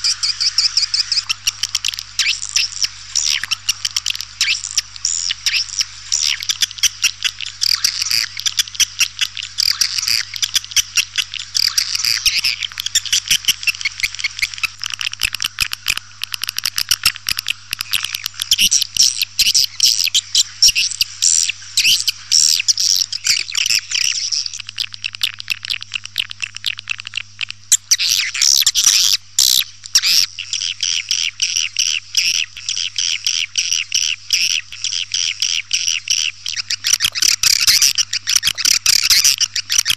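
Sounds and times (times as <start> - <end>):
swiftlets chirping and twittering: 0.0 - 15.6, 16.7 - 39.9.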